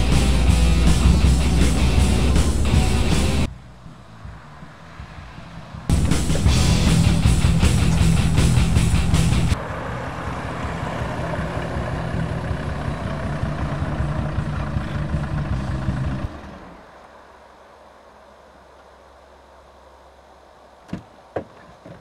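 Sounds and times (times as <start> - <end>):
car engine running: 0.0 - 17.8
car rolling over snow: 0.0 - 18.8.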